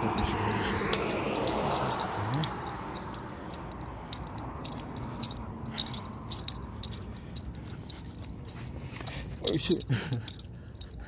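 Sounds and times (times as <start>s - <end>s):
metal chain collar jingling: 0.0s - 11.0s.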